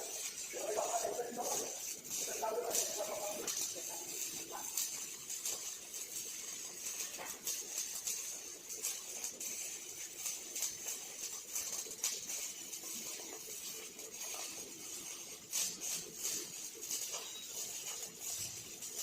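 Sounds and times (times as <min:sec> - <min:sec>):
arc welding crackling hiss: 0:00.0 - 0:19.0
welding sharp pops: 0:00.0 - 0:19.0.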